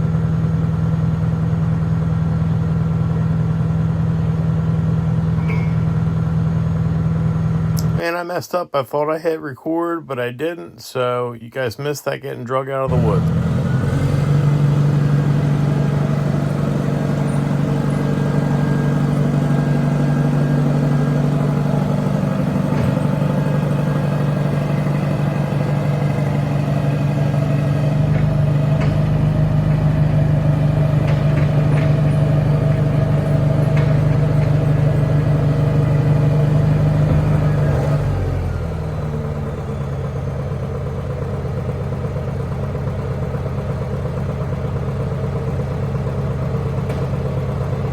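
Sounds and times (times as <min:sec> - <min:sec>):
heavy machine engine running: 0:00.0 - 0:08.0, 0:12.9 - 0:47.9.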